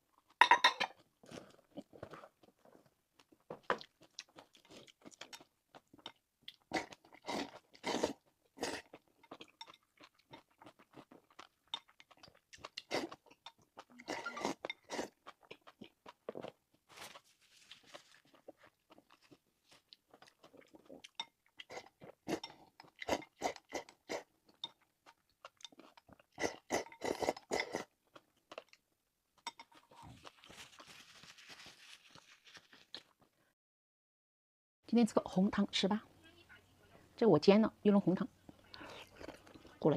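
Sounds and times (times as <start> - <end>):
person chewing crunchy food: 0.3 - 28.8, 29.4 - 33.4, 38.8 - 39.8.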